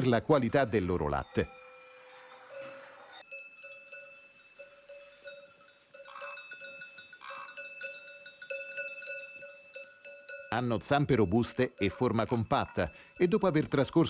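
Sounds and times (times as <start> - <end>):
cowbells clanking: 0.0 - 14.0.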